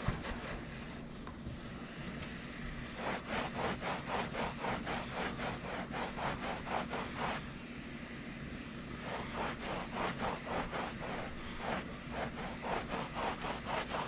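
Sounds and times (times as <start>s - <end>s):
cloth rubbing on carpet: 0.0s - 7.6s, 9.0s - 14.0s
steady low hum: 0.0s - 14.0s.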